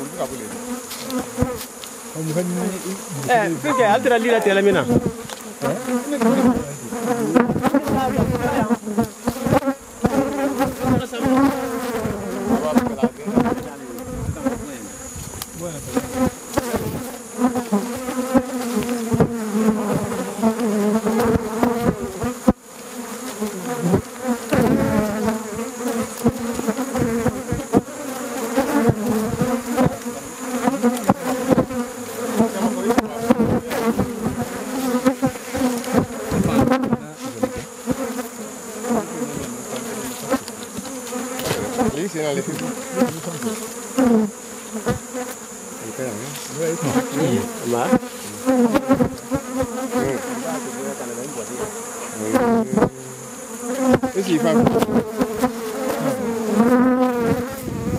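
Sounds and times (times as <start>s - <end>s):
swarm of bees buzzing: 0.0s - 57.9s
knocks from hive handling: 4.4s - 14.1s, 15.2s - 22.6s, 23.3s - 38.2s, 39.4s - 45.5s, 47.9s - 53.0s, 53.7s - 57.9s.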